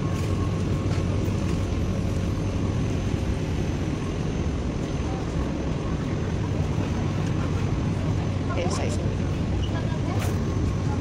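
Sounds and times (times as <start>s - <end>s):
low rumbling warehouse background noise: 0.0s - 11.0s.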